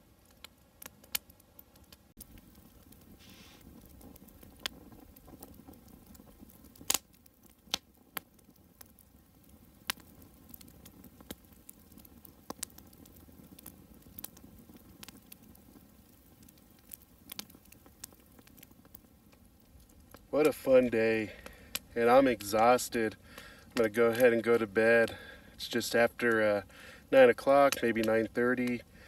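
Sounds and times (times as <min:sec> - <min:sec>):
campfire hiss: 0:00.0 - 0:29.0
campfire wood popping: 0:00.0 - 0:29.0.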